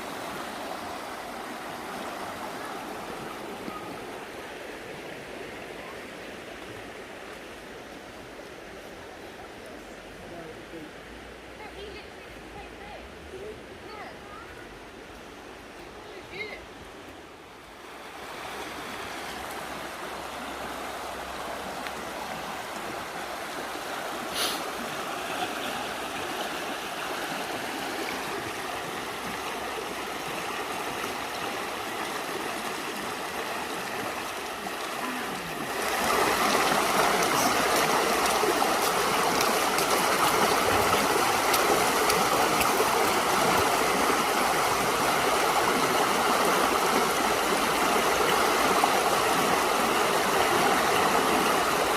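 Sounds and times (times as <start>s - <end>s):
river water rushing and gurgling: 0.0s - 51.9s.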